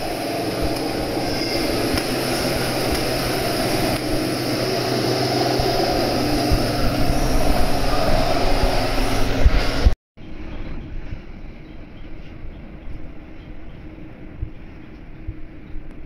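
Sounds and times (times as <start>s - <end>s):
machinery drone: 0.0s - 15.7s.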